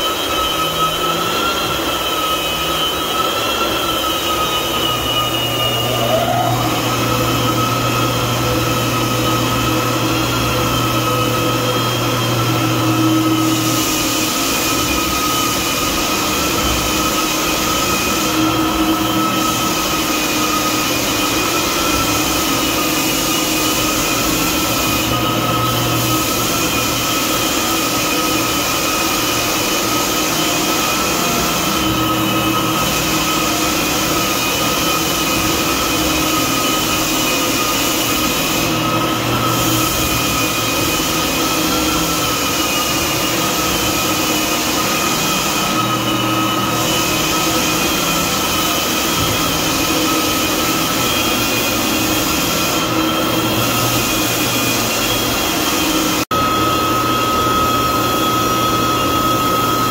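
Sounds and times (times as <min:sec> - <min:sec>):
floor sanders whining and hissing: 0:00.0 - 0:59.9.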